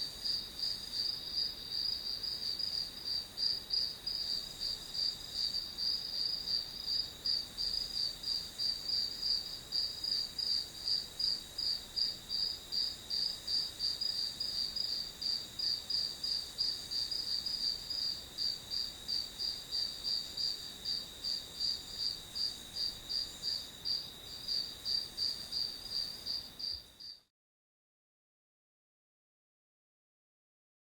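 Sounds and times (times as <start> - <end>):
cricket chirping: 0.0 - 27.3.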